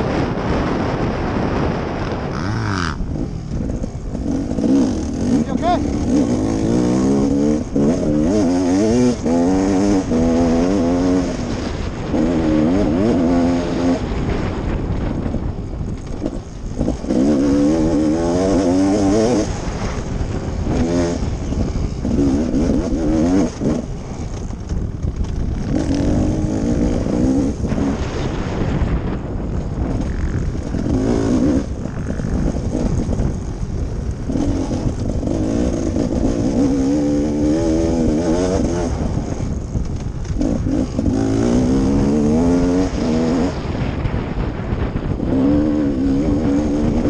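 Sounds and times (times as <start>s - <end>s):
dirt bike engine revving: 0.1s - 15.4s, 16.0s - 29.1s, 29.8s - 47.0s.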